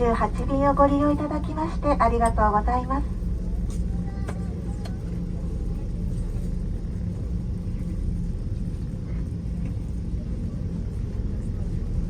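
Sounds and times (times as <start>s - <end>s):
faint voices: 0.0s - 8.0s, 8.6s - 12.0s
aircraft cabin rumble and hum: 0.0s - 12.0s.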